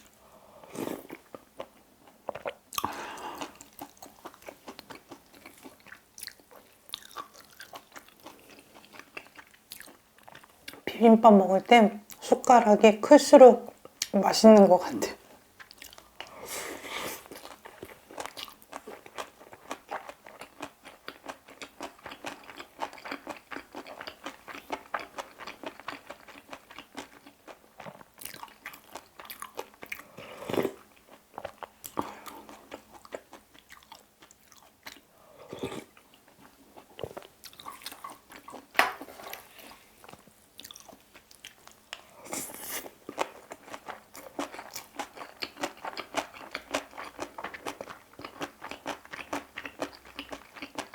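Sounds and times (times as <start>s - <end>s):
chewing and crunching food: 0.0s - 10.9s, 15.3s - 50.9s.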